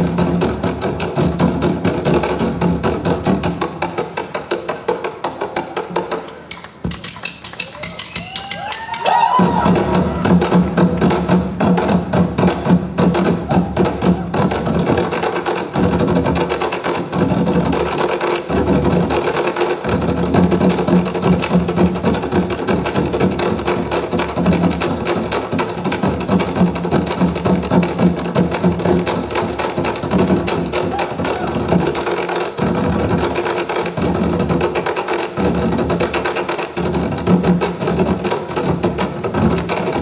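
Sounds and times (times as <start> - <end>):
drummers beating large drums: 0.0 - 40.0.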